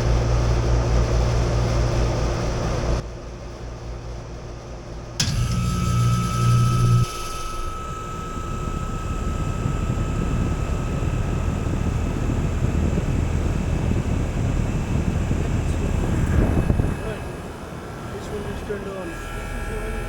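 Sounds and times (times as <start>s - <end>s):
air conditioner fans running: 0.0s - 20.0s.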